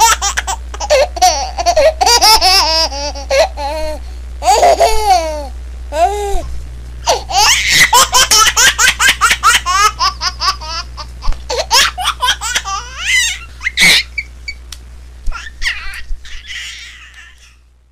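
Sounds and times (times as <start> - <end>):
baby laughing: 0.0 - 14.3, 15.3 - 17.6.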